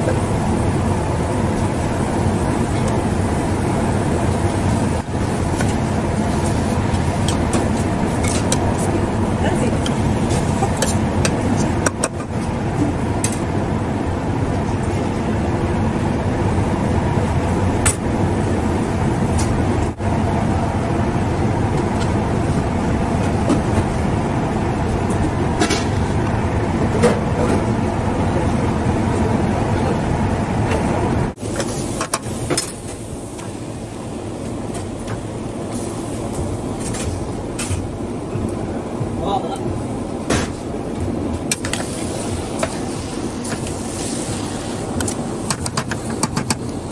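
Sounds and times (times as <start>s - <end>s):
gas burners roaring: 0.0s - 46.9s.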